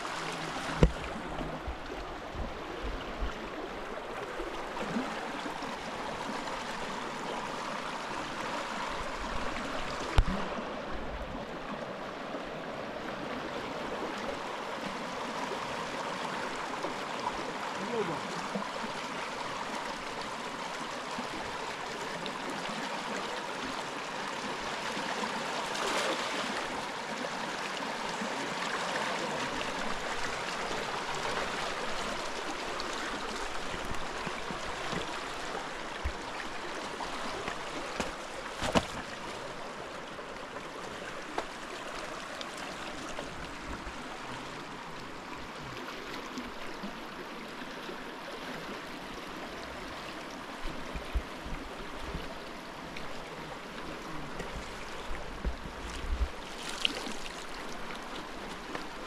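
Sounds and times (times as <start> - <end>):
large river rushing: 0.0 - 59.0.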